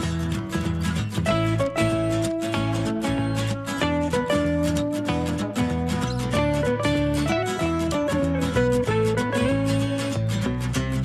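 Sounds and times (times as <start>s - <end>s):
plucked guitar-like music: 0.0s - 11.0s.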